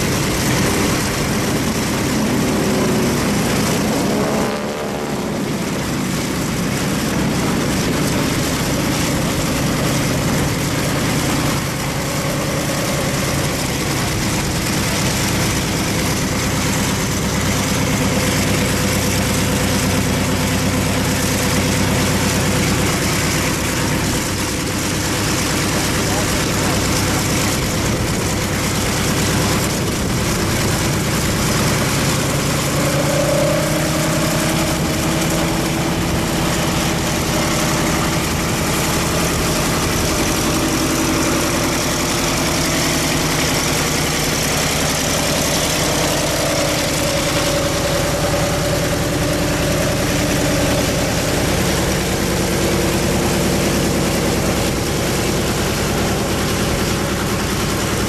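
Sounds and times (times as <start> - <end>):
radial aircraft engine running: 0.0 - 58.0.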